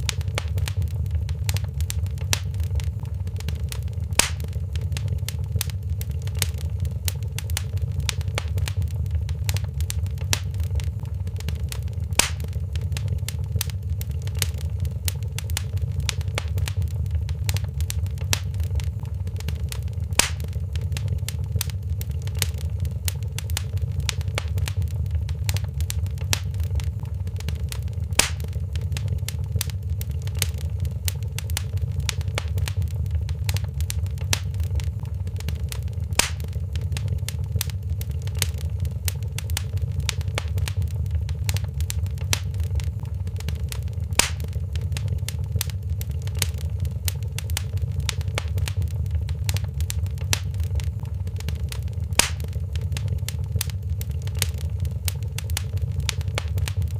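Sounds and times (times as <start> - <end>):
fire popping: 0.0 - 56.9
wood fire crackling: 0.0 - 56.9.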